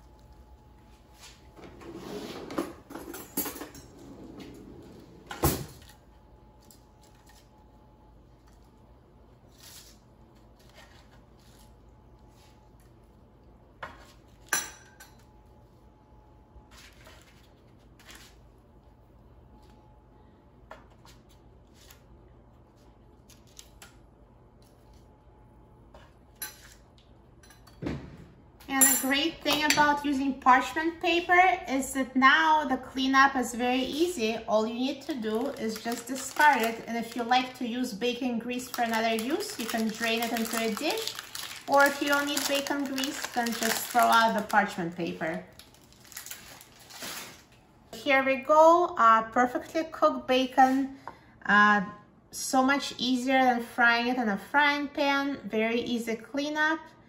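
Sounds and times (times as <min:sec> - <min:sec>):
low room hum: 0:00.0 - 0:57.0.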